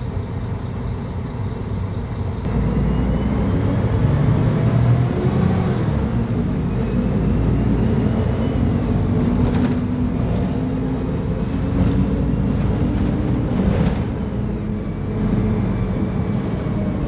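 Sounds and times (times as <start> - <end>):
bus diesel engine drone: 0.0 - 17.0
road and drivetrain rumble: 0.0 - 17.0.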